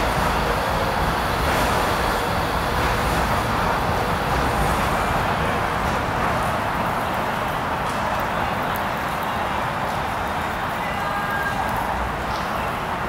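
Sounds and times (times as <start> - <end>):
city background rush: 0.0 - 13.0.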